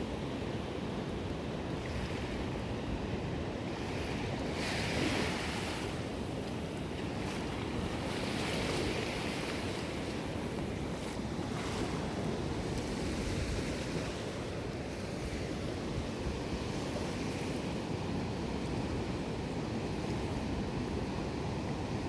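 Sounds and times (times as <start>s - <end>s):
waves breaking on a beach: 0.0s - 22.0s
wind noise on microphone: 0.0s - 22.0s.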